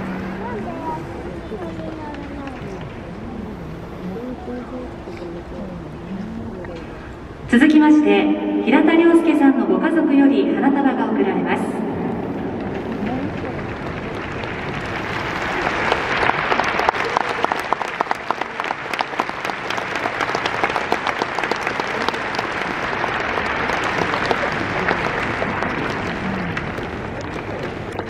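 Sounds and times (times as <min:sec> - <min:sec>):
stadium crowd applauding: 0:00.0 - 0:07.3, 0:12.2 - 0:28.0.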